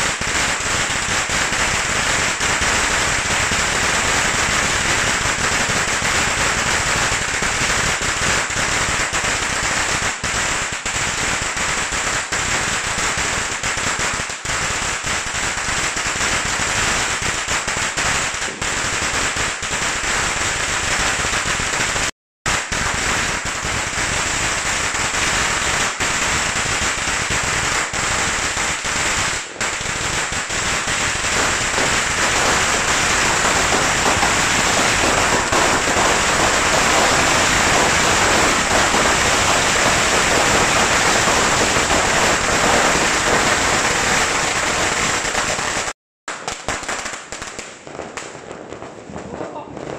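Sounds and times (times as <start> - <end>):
firecrackers crackling: 0.0 - 49.9.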